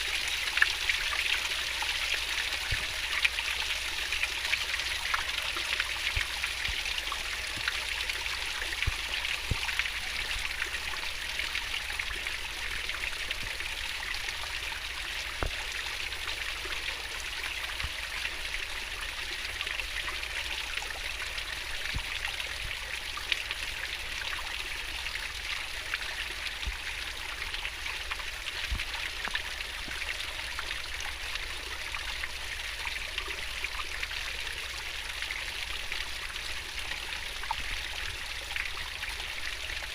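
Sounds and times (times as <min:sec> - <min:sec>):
stream babbling and splashing: 0:00.0 - 0:39.9.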